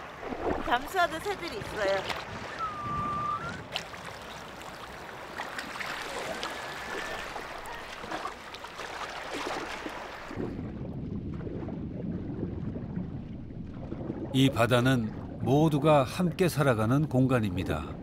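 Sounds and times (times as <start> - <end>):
sea water splashing: 0.0 - 16.8.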